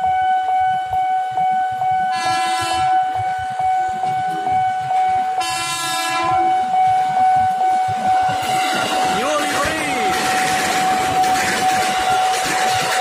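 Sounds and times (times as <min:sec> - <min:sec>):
train horn blasts: 0:00.0 - 0:13.0.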